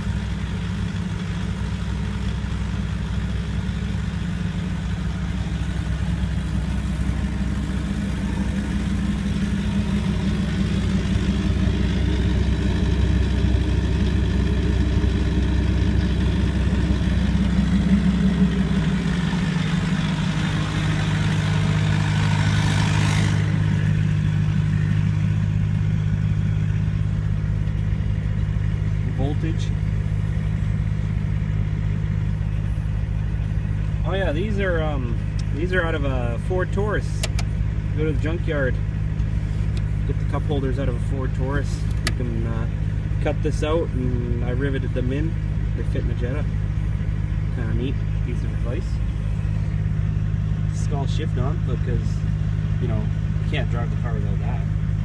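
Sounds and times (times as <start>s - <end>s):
diesel engine idling with clatter: 0.0s - 55.0s.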